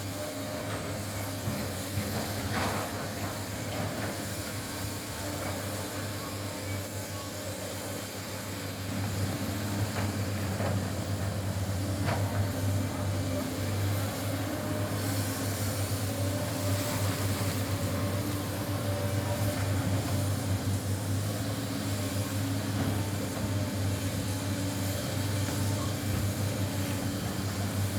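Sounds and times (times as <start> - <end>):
excavator diesel engine running: 0.1 - 27.9.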